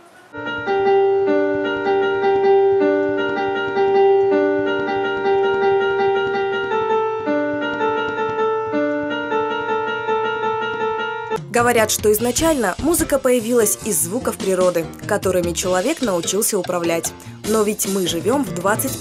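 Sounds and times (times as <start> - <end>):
electronic keyboard music: 0.4 - 19.0.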